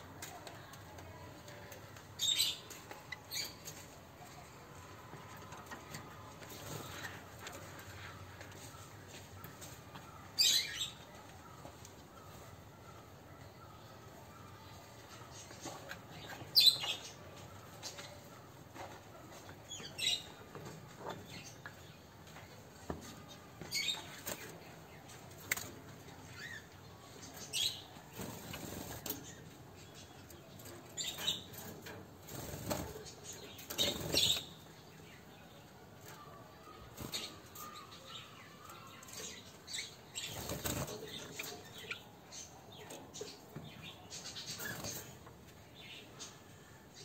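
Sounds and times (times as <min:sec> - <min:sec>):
birds fluttering in a cage: 0:00.0 - 0:47.0.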